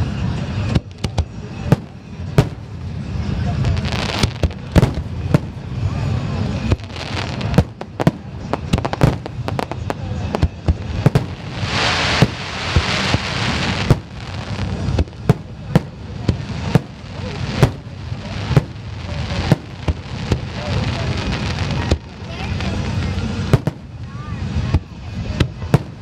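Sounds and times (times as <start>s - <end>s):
firework bangs: 0.0s - 26.0s
firework hissing crackle: 0.0s - 26.0s.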